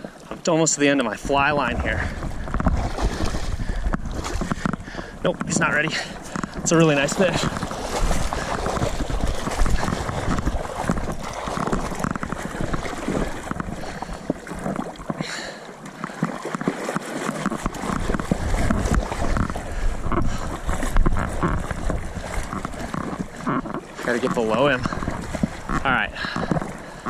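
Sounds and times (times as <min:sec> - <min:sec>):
water splashing around wading legs: 0:00.0 - 0:27.0
wind buffeting microphone: 0:01.0 - 0:15.0, 0:17.6 - 0:27.0.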